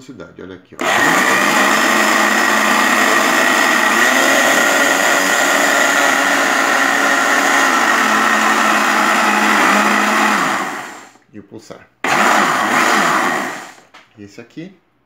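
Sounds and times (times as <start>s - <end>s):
blender motor whine: 0.8s - 11.2s, 12.0s - 13.9s.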